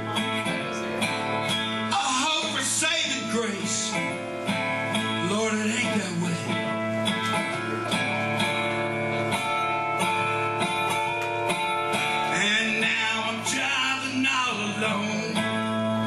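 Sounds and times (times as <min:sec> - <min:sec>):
resonator guitar strummed: 0:00.0 - 0:16.0.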